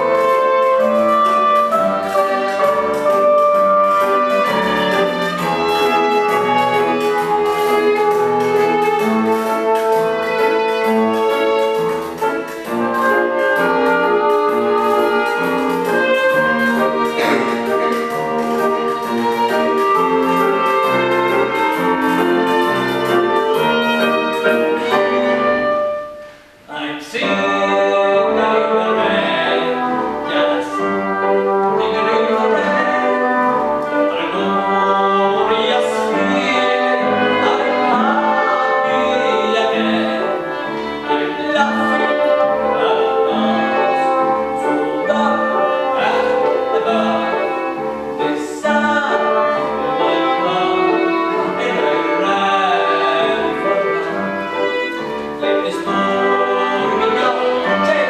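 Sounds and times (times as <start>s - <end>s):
live ensemble music: 0.0s - 58.0s.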